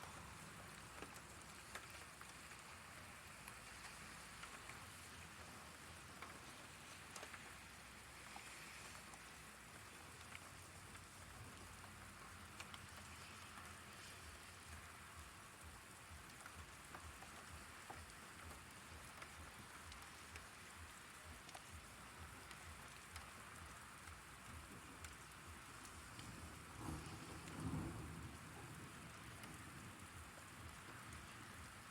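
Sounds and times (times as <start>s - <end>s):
faint steady rain: 0.0s - 31.9s.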